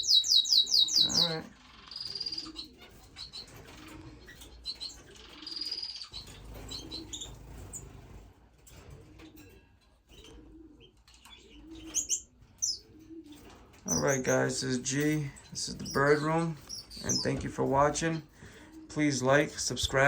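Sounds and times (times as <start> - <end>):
finches chirping: 0.0 - 8.2, 10.1 - 19.1
doves cooing softly: 0.0 - 20.0.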